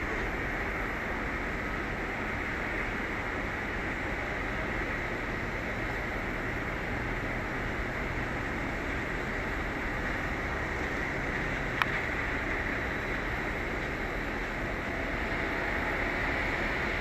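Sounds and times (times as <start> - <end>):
distant aircraft engines rumbling: 0.0 - 17.0.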